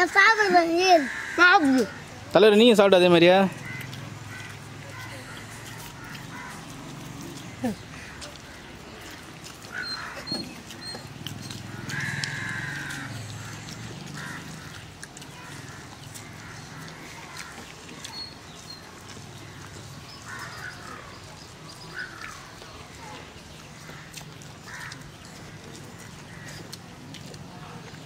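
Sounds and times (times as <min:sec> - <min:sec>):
faint outdoor background: 0:00.0 - 0:28.0
animal calls: 0:00.3 - 0:02.2, 0:03.5 - 0:28.0.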